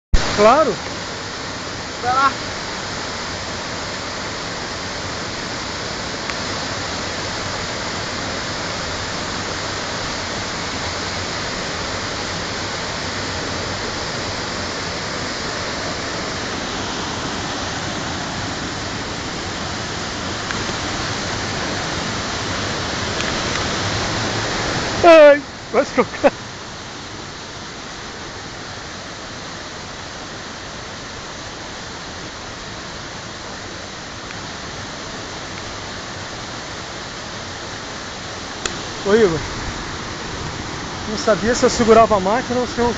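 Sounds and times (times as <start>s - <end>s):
waterfall rushing: 0.1s - 42.9s.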